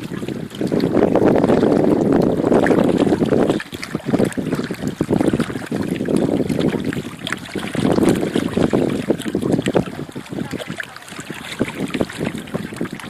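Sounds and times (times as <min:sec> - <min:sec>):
water lapping and splashing: 0:00.0 - 0:13.0
wind rumbling on microphone: 0:00.0 - 0:13.0.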